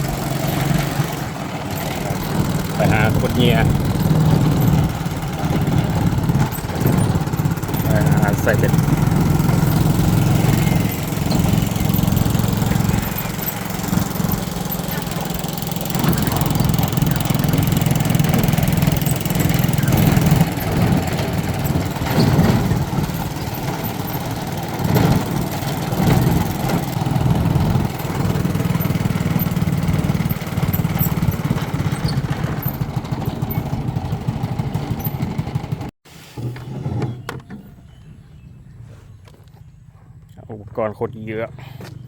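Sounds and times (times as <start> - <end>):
small engine running: 0.0 - 35.9.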